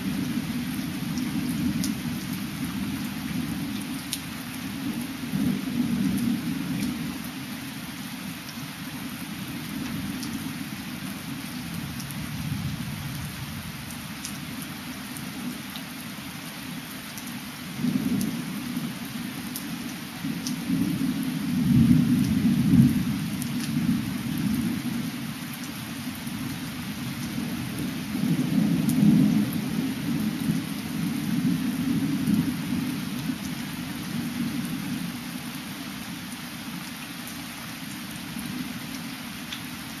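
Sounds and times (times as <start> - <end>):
rain hiss: 0.0 - 40.0.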